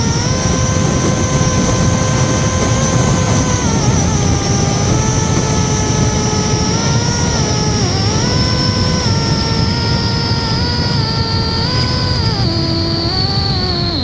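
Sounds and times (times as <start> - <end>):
electric motor and propeller humming: 0.0 - 14.0
heavy wind rush: 0.0 - 14.0
steady high whine: 0.0 - 14.0.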